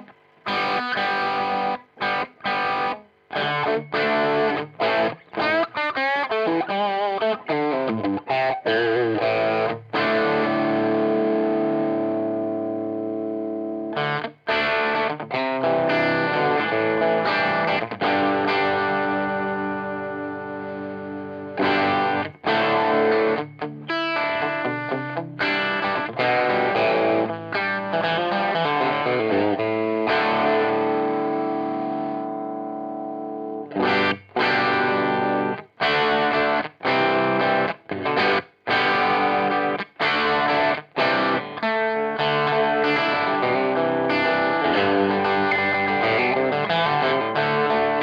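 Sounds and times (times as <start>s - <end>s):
overdriven electric guitar chords: 0.0s - 48.0s.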